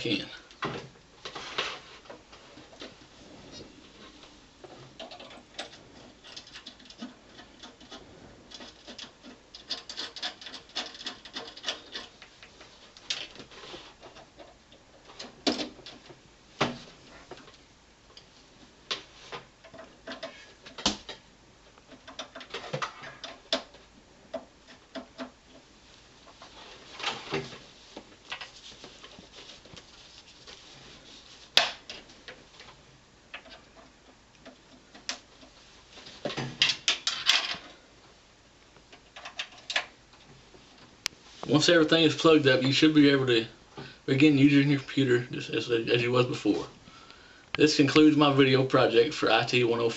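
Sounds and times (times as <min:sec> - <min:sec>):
cables rustling and scraping: 0:00.0 - 0:49.9.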